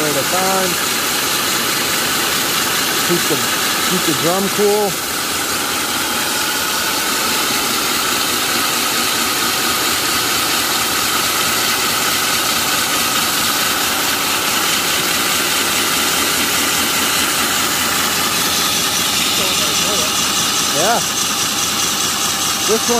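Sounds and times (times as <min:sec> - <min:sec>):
core drill grinding through asphalt: 0:00.0 - 0:22.9.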